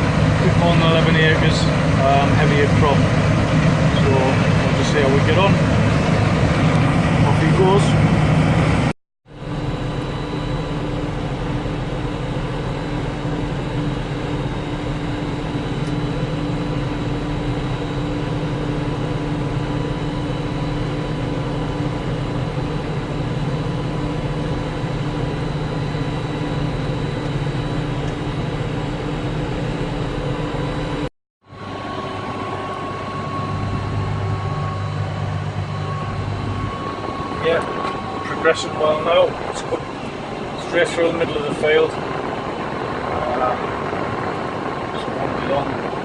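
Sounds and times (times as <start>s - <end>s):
heavy farm machinery drone: 0.0s - 46.0s.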